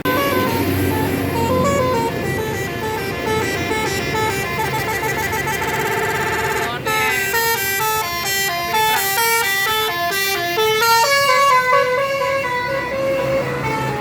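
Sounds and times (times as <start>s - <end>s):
multi-note air horn melody: 0.0s - 14.0s.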